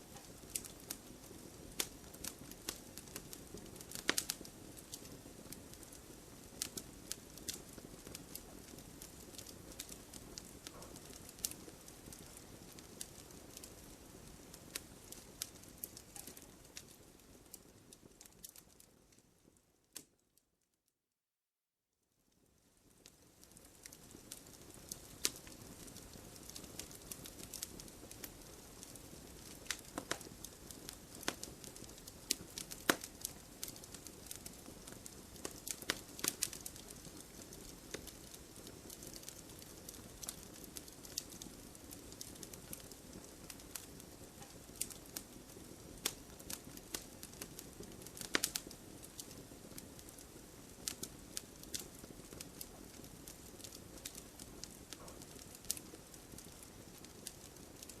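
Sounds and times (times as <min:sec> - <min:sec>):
flames hissing and rumbling: 0:00.0 - 0:18.6, 0:22.8 - 0:58.0
burning wood crackling and popping: 0:00.0 - 0:20.2, 0:22.8 - 0:58.0.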